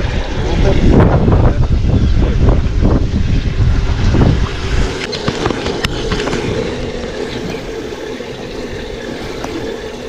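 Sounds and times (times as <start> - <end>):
spinning reel whirring: 0.0 - 10.0.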